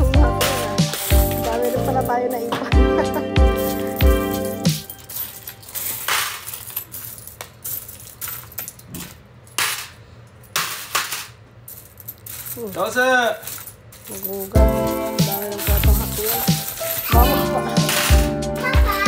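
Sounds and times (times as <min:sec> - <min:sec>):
coins clinking and rattling: 0:00.0 - 0:19.0.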